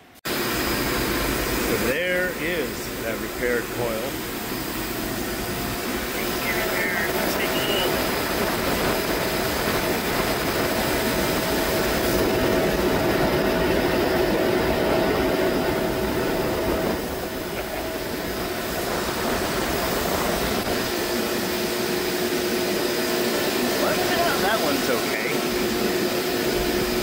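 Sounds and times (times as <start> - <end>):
chiller compressors running: 0.0 - 27.0.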